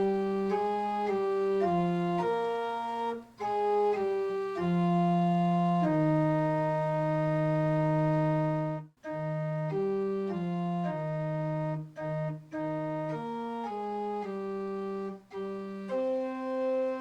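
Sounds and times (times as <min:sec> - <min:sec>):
organ playing held chords: 0:00.0 - 0:17.0.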